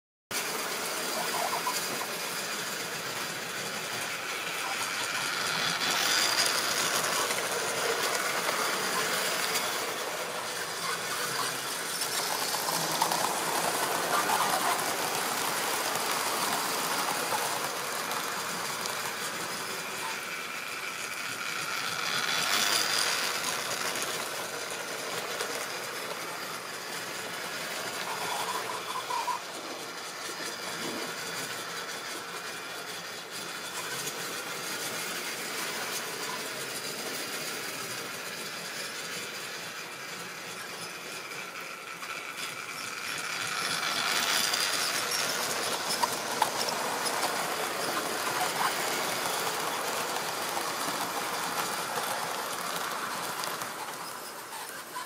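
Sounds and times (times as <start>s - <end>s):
model train whirring rattle: 0.3s - 55.0s.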